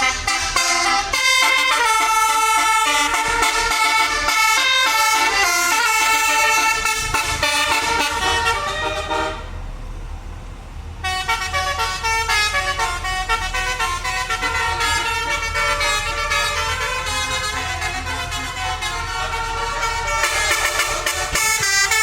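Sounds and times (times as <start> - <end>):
musical bus horn playing a tune: 0.0 - 9.6, 11.0 - 22.0.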